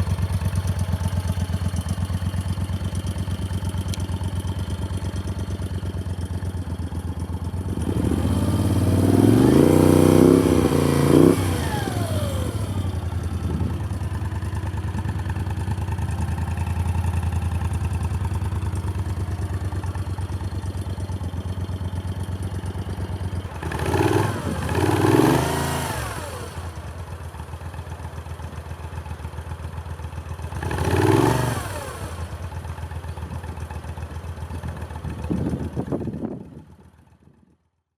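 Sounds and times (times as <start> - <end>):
motorcycle engine idling and revving: 0.0 - 37.8.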